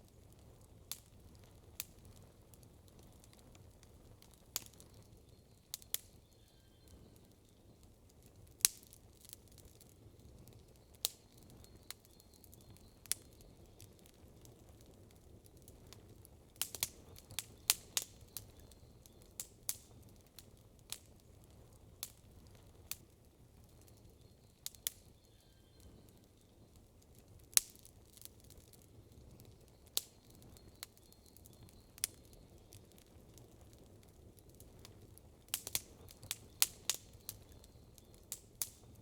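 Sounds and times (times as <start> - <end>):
burning logs popping: 0.0 - 39.0
campfire crackling: 0.0 - 39.0.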